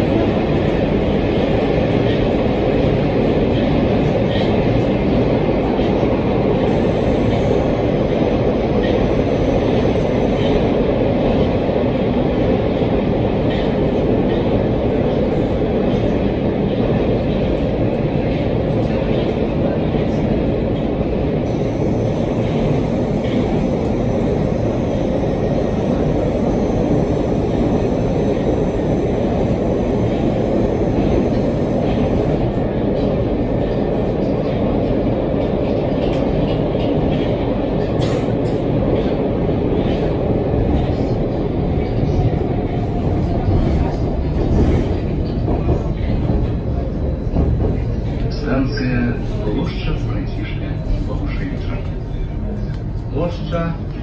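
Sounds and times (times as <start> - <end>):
train rumbling in a tunnel: 0.0 - 54.0.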